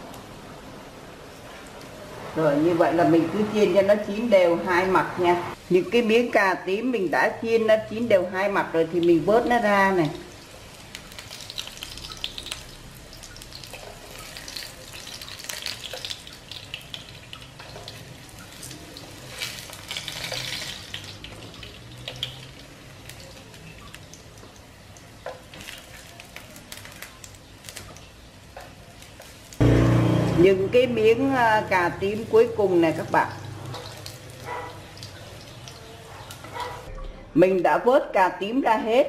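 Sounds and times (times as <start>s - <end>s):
eggplant sizzling in oil: 2.9s - 36.9s.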